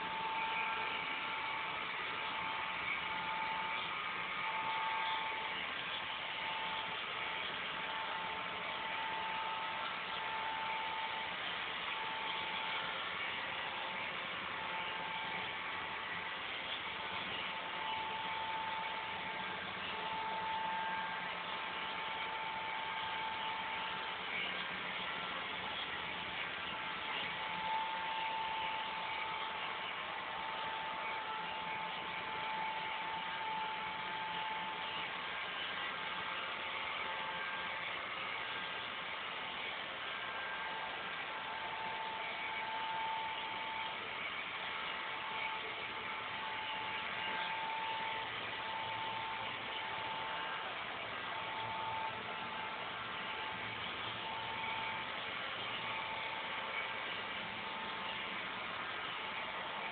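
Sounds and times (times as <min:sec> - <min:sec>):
thin whine: 0:00.0 - 0:59.9
vacuum cleaner motor whir: 0:00.0 - 0:59.9.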